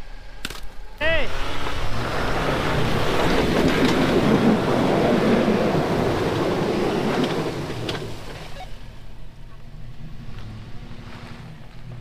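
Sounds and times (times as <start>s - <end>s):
truck engine working hard: 0.0s - 12.0s
tyres churning snow: 0.9s - 12.0s.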